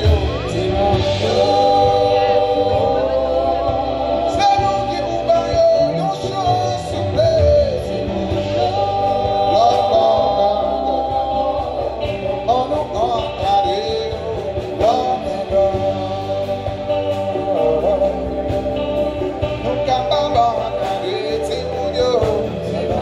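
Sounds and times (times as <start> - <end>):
live band music: 0.0 - 23.0
person singing: 0.0 - 23.0
steady bass line: 0.0 - 23.0.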